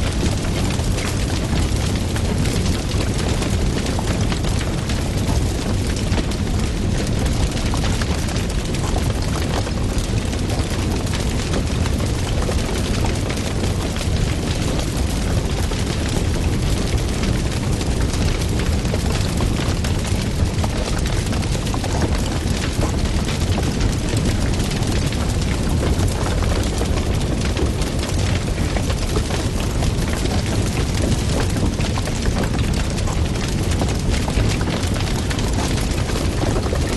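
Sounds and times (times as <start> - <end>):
low rumble of flames: 0.0 - 36.9
wood fire crackling and popping: 0.0 - 36.9.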